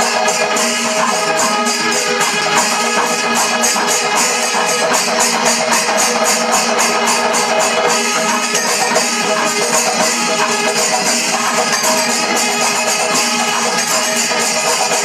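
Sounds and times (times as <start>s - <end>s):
cymbals: 0.0s - 15.0s
drums in rapid beat: 0.0s - 15.0s.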